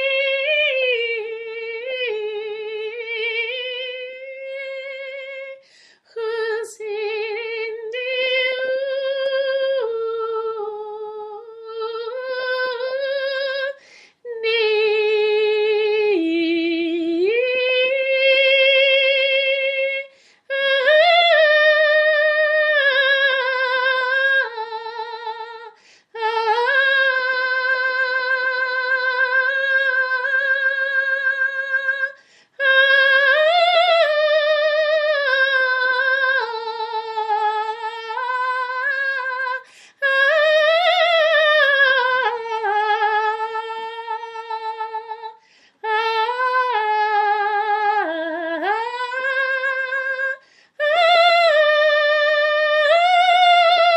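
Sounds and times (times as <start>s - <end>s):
woman singing unaccompanied: 0.0s - 53.9s.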